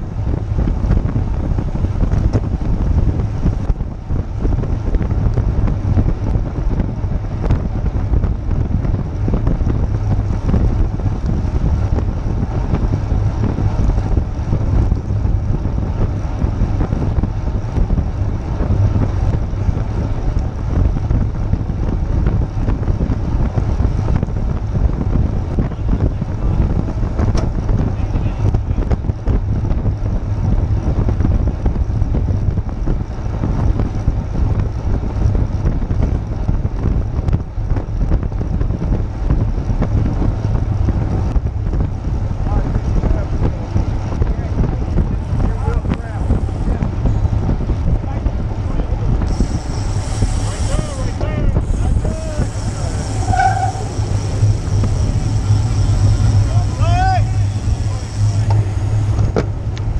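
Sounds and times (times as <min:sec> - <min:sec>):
tyre rumble on wet road: 0:00.0 - 0:59.9
wind buffeting microphone: 0:00.0 - 0:59.9.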